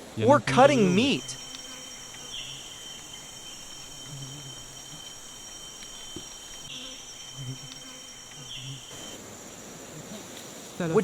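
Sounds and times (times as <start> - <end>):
insects droning high-pitched: 0.2 - 11.0.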